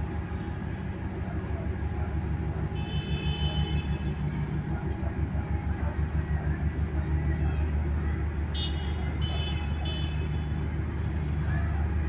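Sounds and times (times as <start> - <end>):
large engine pulsing rumble: 0.0 - 12.0.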